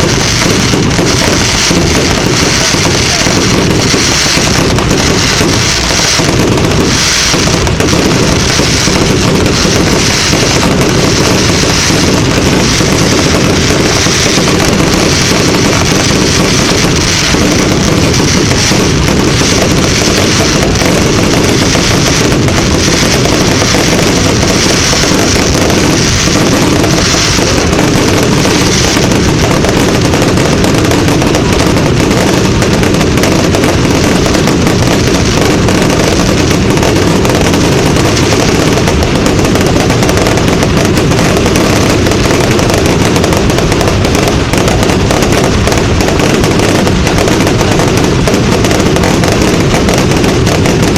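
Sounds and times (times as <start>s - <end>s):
fireworks crackling bangs: 0.0s - 50.9s.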